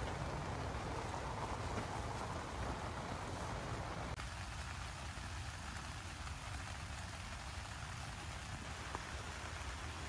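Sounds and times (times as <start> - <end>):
rain falling on a tent: 0.0 - 10.0.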